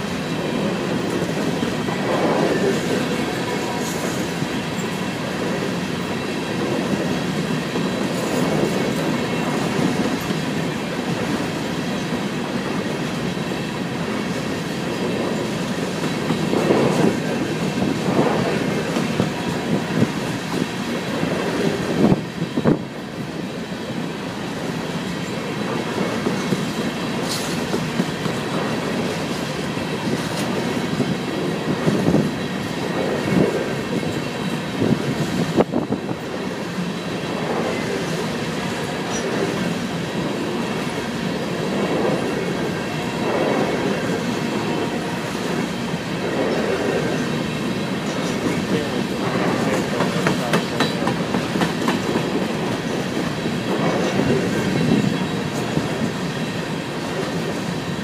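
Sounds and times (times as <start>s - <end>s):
steel wheels rolling on rail: 0.0s - 58.0s.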